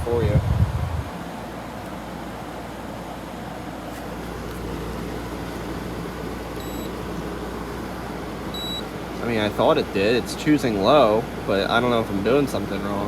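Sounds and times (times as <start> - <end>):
air conditioner fan rushing: 0.0 - 13.0.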